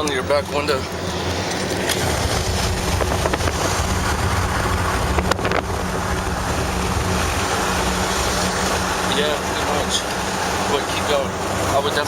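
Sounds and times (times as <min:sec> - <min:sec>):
car road and engine rumble: 0:00.0 - 0:12.0
wind buffeting through car window: 0:01.2 - 0:12.0.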